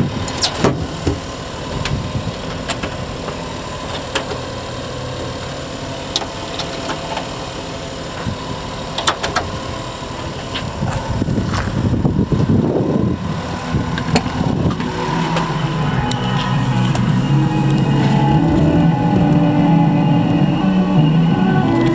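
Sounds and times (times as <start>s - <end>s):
small truck engine running: 0.0s - 21.9s.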